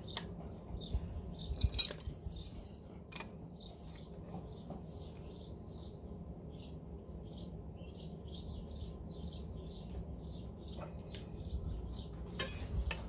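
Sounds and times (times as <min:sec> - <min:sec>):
low steady background noise: 0:00.0 - 0:13.0
small bird chirping: 0:00.0 - 0:13.0.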